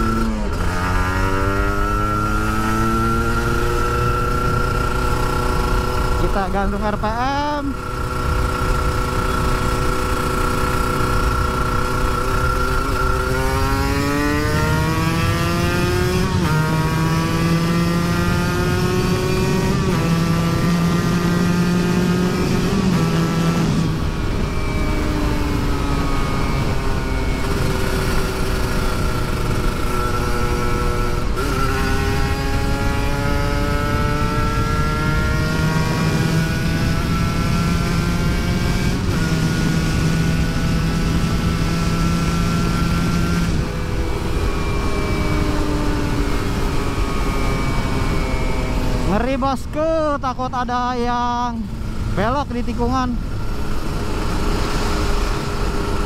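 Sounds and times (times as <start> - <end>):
two-stroke motorcycle engine accelerating: 0.0 - 56.0.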